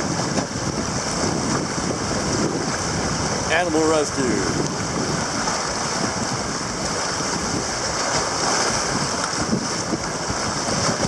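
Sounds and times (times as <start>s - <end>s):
sea water breaking against rocks: 0.0s - 11.0s
wind on microphone: 0.0s - 11.0s.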